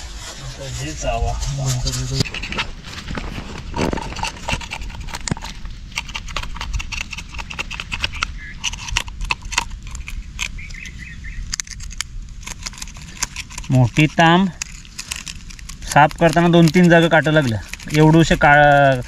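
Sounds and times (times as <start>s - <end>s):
blade scraping fish scales: 0.0s - 19.0s.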